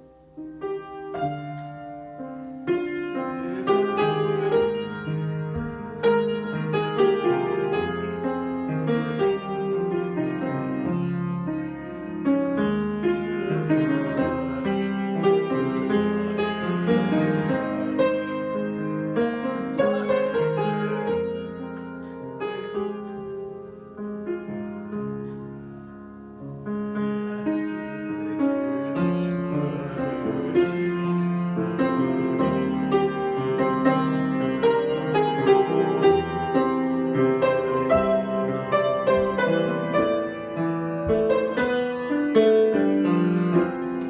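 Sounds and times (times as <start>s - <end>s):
solo piano improvisation: 0.0s - 44.0s.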